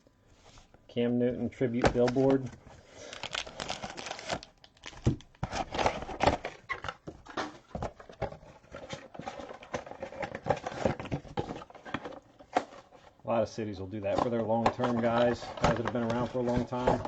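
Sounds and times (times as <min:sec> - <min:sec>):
cards knocking and rustling: 0:01.7 - 0:13.0, 0:14.1 - 0:17.0.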